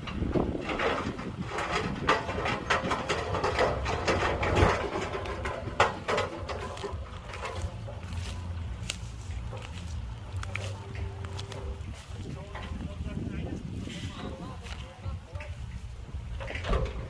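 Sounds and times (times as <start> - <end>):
machinery clanks and knocks: 0.0 - 13.6, 14.3 - 17.0
heavy machinery engine rumble: 0.0 - 17.0.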